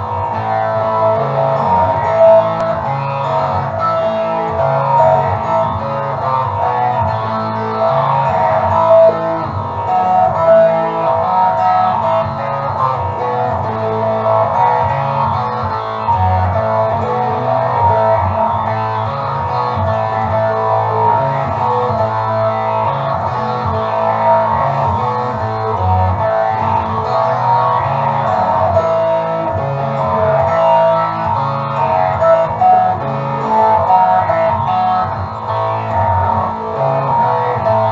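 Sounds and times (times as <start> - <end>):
guitar-led music: 0.0 - 37.9
steady bass line: 0.0 - 37.9.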